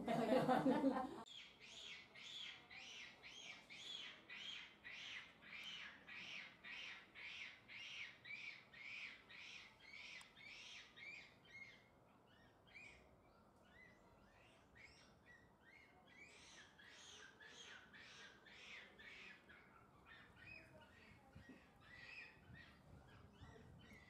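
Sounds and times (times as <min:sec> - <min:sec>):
faint high chirping: 0:01.3 - 0:24.0.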